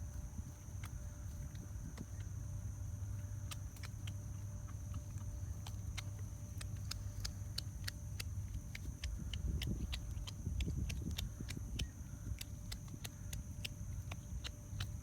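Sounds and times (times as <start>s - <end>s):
animals crunching food: 0.0s - 15.0s.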